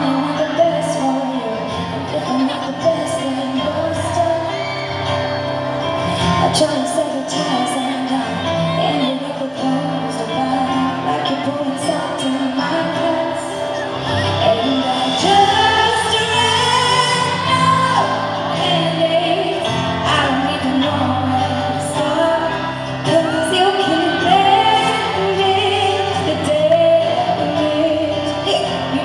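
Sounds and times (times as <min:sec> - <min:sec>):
full band playing: 0:00.0 - 0:29.0
woman singing: 0:00.0 - 0:29.0.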